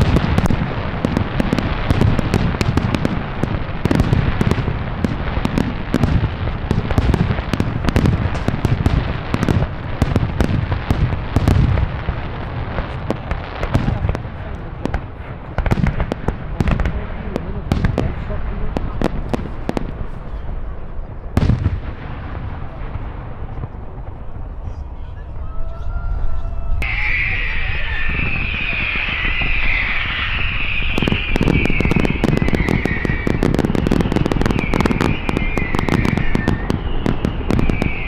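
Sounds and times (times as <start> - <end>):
fireworks cracking and crackling: 0.0 - 25.5, 26.8 - 38.0
deep fireworks booms: 0.0 - 38.0.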